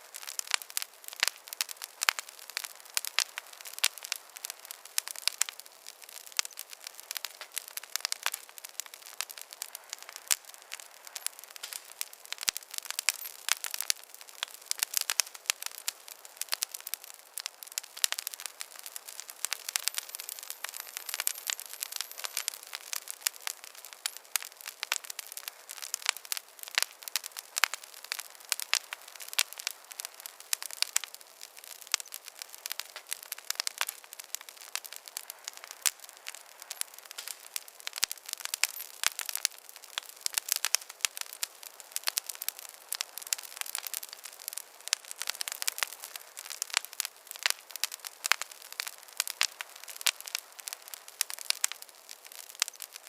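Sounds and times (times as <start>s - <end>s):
campfire crackling and popping: 0.0s - 53.0s
faint hiss: 0.0s - 53.0s.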